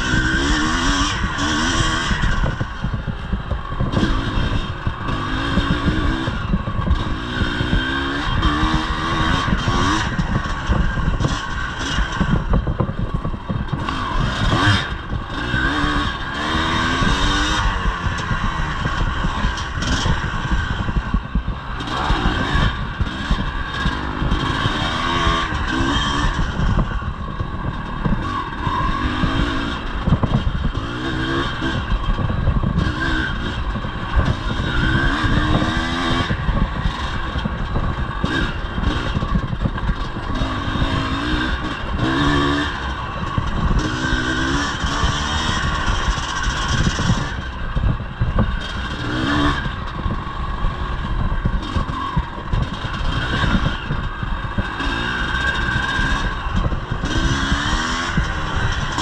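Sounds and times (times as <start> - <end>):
dirt bike engine revving: 0.0 - 59.0
rough rattle and knocking: 0.0 - 59.0.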